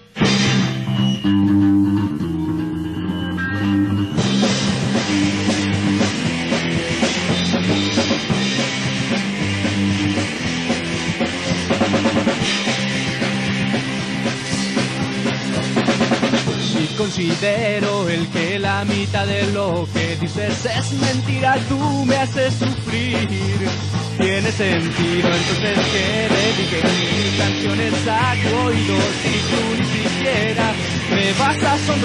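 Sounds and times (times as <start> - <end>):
bass guitar: 0.0 - 32.0
drums and cymbals: 0.0 - 32.0
electric guitar: 0.0 - 32.0.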